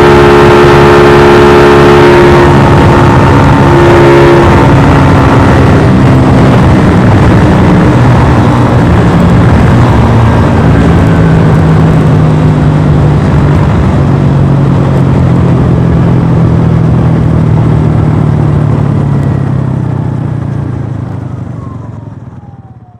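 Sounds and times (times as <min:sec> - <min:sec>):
motorcycle engine revving high: 0:00.0 - 0:22.9
wind rush: 0:00.0 - 0:22.9.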